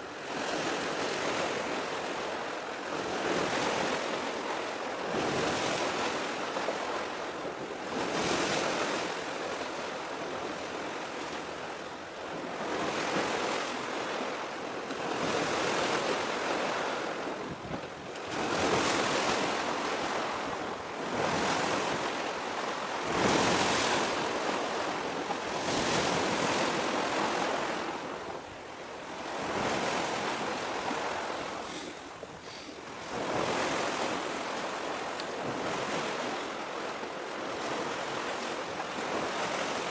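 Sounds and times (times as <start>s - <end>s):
sea waves washing in: 0.0s - 39.9s
wind buffeting microphone: 0.2s - 39.9s.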